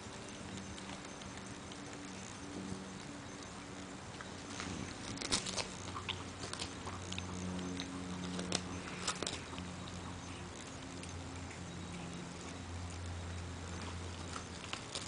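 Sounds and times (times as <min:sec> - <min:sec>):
dog chewing crunchy treat: 0:00.0 - 0:15.0
low hum: 0:00.0 - 0:15.0.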